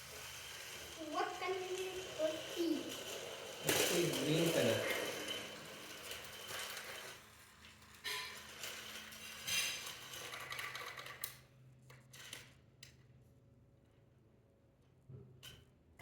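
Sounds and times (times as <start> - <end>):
toy trains clattering: 0.0 - 13.0.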